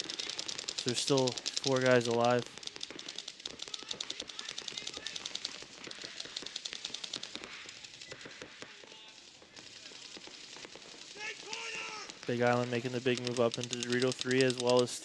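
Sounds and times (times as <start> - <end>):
paintball markers firing: 0.0 - 15.0.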